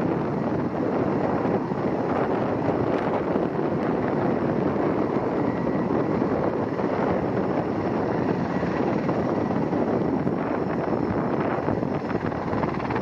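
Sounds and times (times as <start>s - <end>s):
helicopter rotors and engines: 0.0s - 13.0s
wind noise on microphone: 0.0s - 13.0s.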